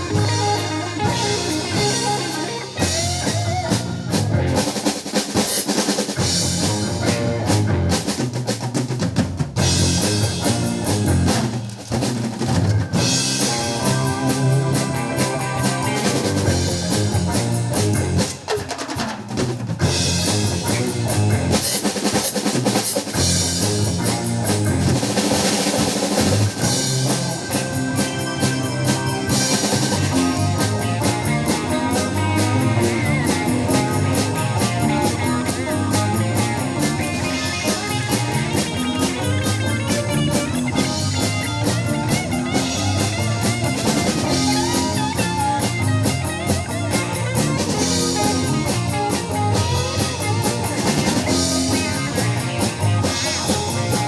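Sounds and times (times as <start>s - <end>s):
drum kit: 0.0s - 54.0s
live rock band playing: 0.0s - 54.0s.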